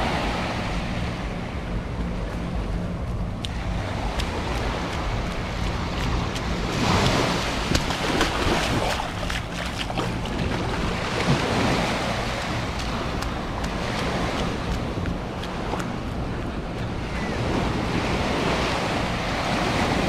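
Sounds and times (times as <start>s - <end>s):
surf waves breaking on sand: 0.0s - 20.0s
wind buffeting microphone: 0.0s - 20.0s.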